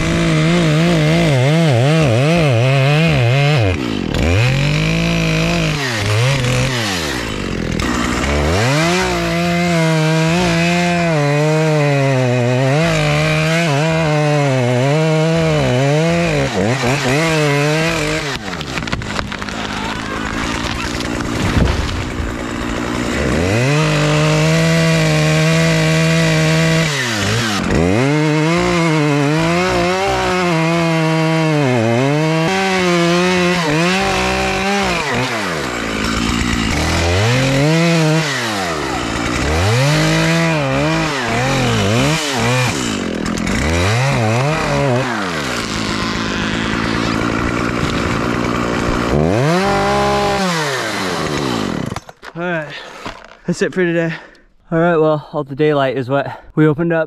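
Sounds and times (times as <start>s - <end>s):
chainsaw revving and cutting: 0.0s - 53.4s.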